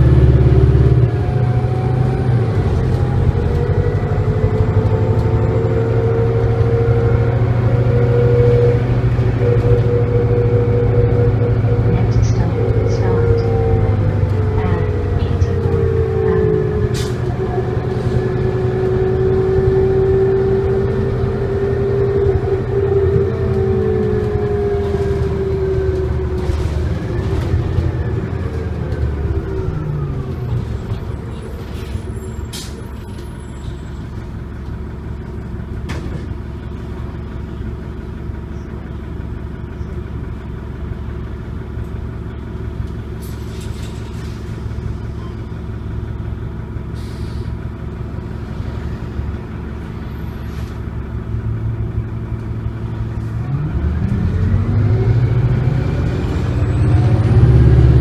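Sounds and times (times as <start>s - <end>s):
bus engine whine: 0.0s - 58.0s
engine and road drone: 0.0s - 58.0s.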